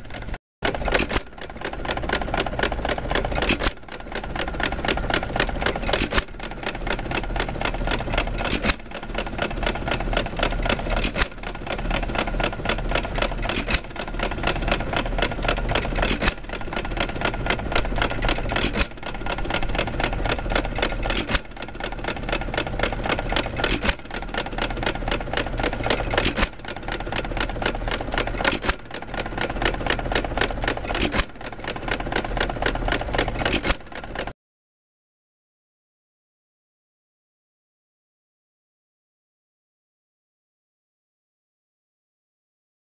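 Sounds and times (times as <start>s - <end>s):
engine mechanical clatter: 0.0s - 34.4s.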